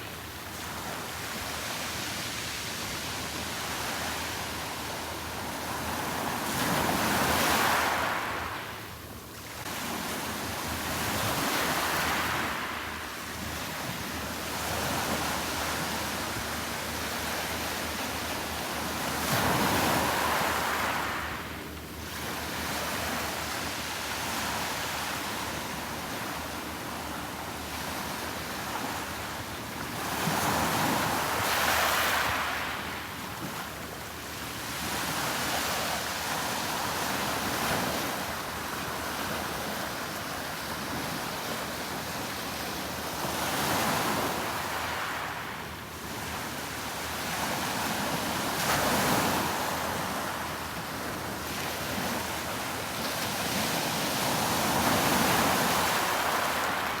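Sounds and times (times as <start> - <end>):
sea waves breaking on beach: 0.0 - 8.8, 9.5 - 57.0.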